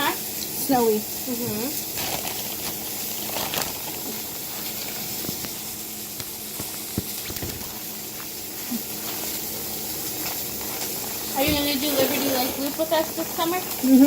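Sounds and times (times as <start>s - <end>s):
burgers sizzling in a pan: 0.0s - 14.0s.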